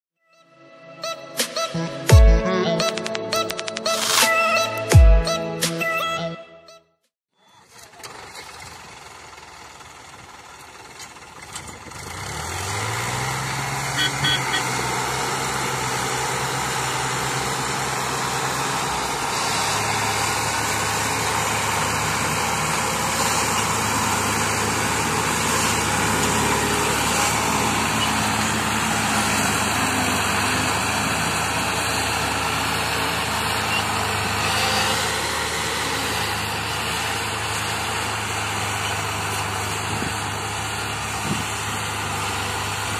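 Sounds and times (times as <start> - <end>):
tractor diesel engines revving: 7.5 - 42.9.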